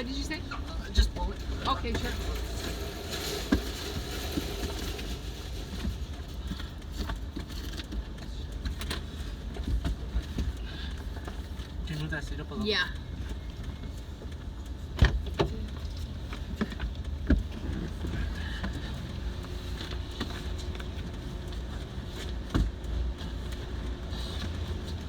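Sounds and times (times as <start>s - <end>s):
steady low rumble: 0.0s - 22.4s.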